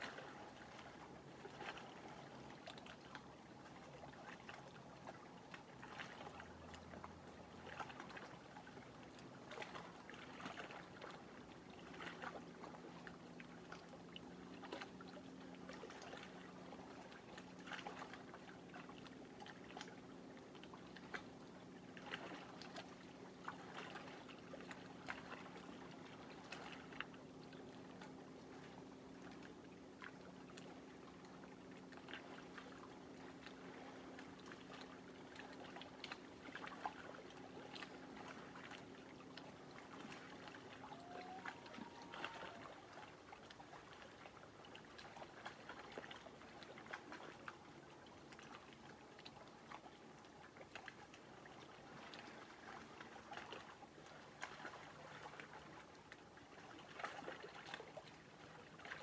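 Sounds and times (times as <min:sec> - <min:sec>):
faint low hum: 0:00.0 - 0:59.0
water lapping at shore: 0:00.0 - 0:59.0.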